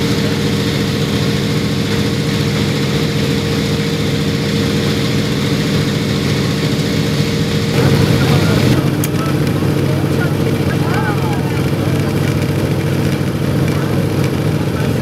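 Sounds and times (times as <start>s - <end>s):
propeller plane engine in flight: 0.0s - 15.0s.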